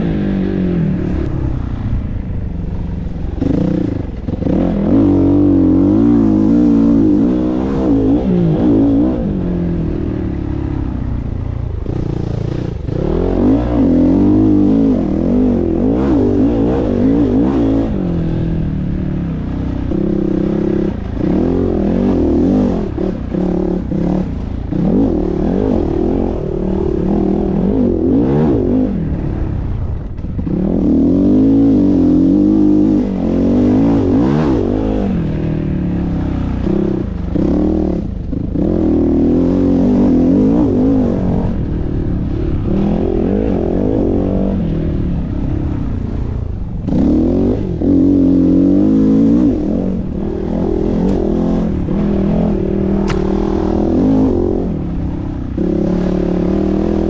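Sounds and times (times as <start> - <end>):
dirt bike engine revving: 3.2 - 57.0.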